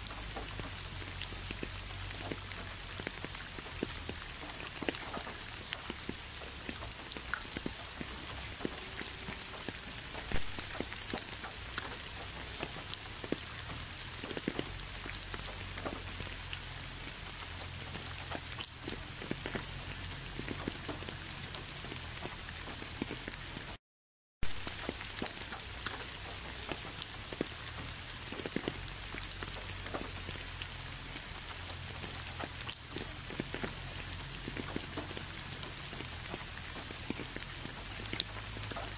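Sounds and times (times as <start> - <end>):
raindrops tapping: 0.0 - 23.8, 24.4 - 38.9
steady rain: 0.0 - 23.8, 24.4 - 38.9.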